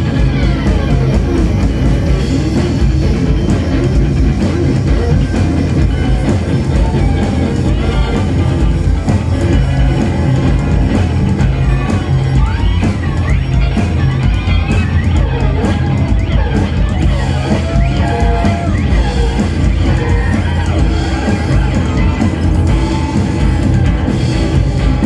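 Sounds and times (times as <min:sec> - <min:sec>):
rock band playing loudly: 0:00.0 - 0:25.0.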